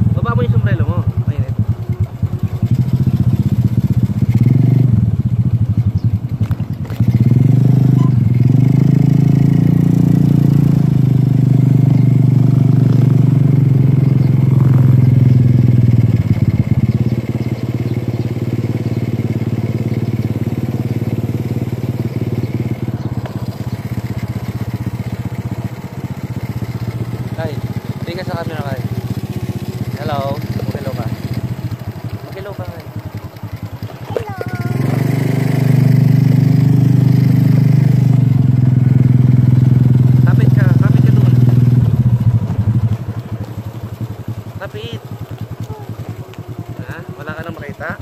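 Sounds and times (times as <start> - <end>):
small motorcycle engine: 0.0 - 48.0.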